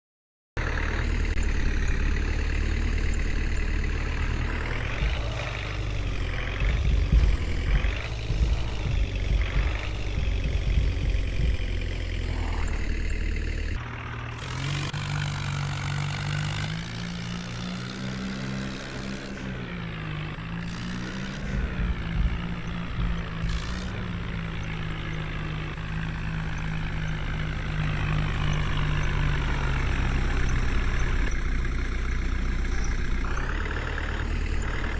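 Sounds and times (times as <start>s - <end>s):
tractor engine revving: 0.6s - 34.9s.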